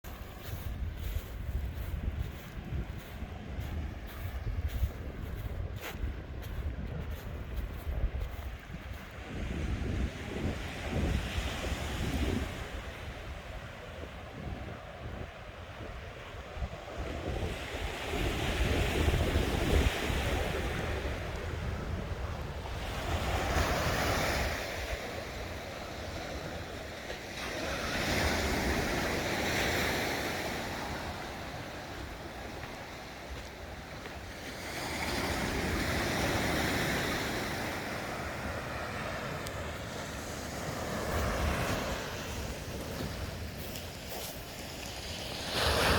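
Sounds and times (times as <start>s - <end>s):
wind buffeting microphone: 0.0s - 26.9s, 35.2s - 45.9s
sea waves breaking on beach: 0.1s - 45.9s.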